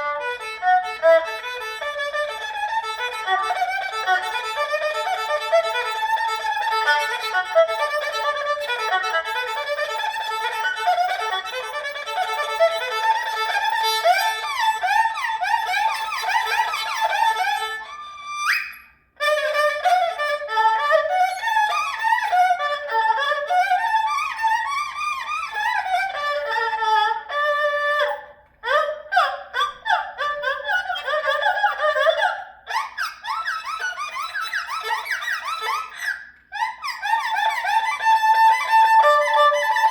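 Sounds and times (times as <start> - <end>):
erhu playing fast trills: 0.0 - 39.9.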